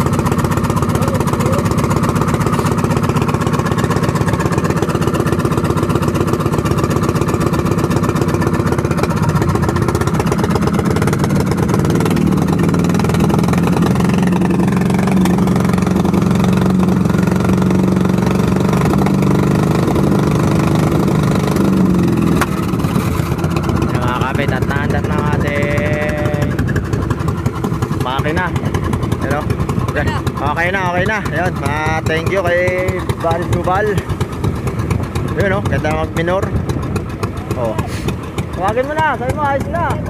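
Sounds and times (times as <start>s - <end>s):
small boat engine idling: 0.0s - 40.0s.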